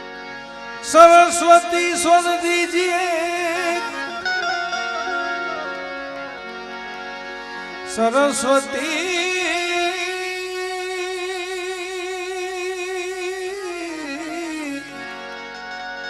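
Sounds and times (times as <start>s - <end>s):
harmonium accompaniment: 0.0s - 16.0s
man singing devotional song: 0.8s - 6.4s, 7.7s - 15.2s.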